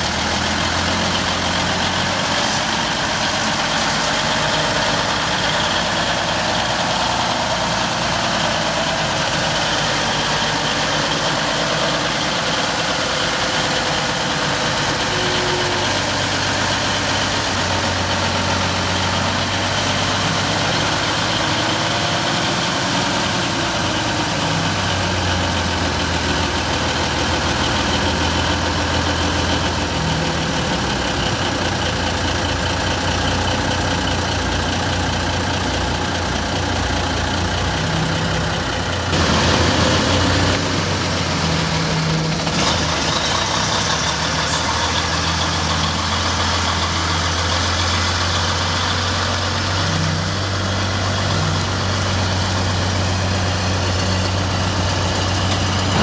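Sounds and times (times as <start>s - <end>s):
truck engine running at low revs: 0.0s - 56.0s.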